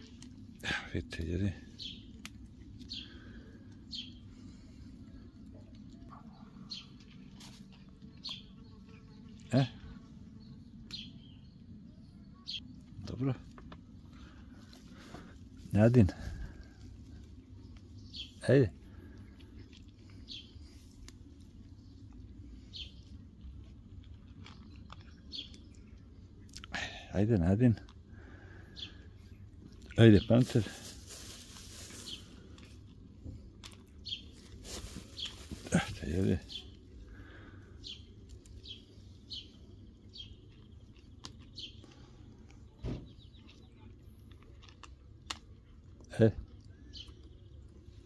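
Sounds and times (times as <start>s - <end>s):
cats crunching dry kibble: 0.0s - 8.7s, 12.8s - 26.5s, 27.8s - 48.0s
low background hum: 0.0s - 48.0s.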